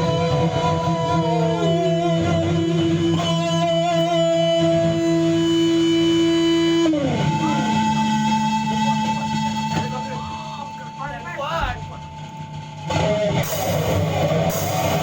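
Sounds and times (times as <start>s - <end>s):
guitar holding bending notes: 0.0s - 15.0s.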